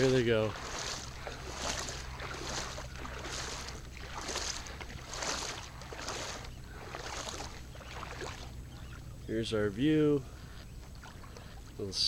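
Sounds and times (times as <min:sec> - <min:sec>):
water splashing rhythmically: 0:00.0 - 0:09.3, 0:09.9 - 0:12.0
low steady hum: 0:00.0 - 0:12.0.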